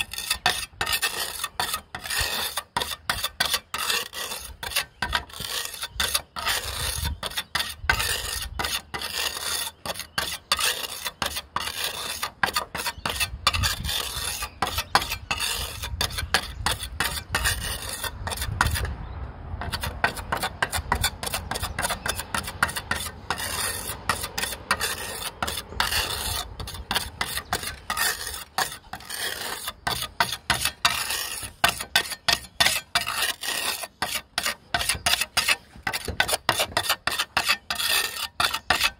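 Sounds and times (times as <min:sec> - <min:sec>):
trowel scraping on roof: 0:00.0 - 0:18.9, 0:19.6 - 0:38.9.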